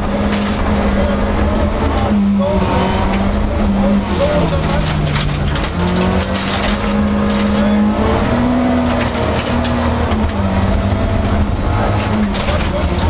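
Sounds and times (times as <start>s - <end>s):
gravel clicking and rattling: 0.0s - 13.0s
rally car engine revving: 0.0s - 13.0s.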